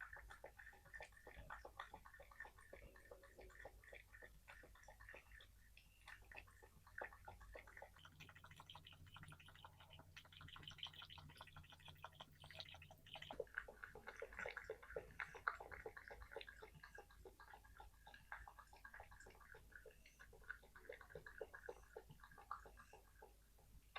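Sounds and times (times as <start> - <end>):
cat lapping water: 0.0 - 23.9.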